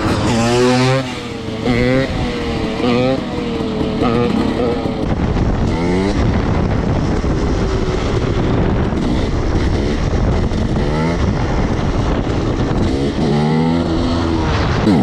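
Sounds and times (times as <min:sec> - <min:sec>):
dirt bike engine revving: 0:00.0 - 0:15.0
wind and riding noise: 0:00.0 - 0:15.0.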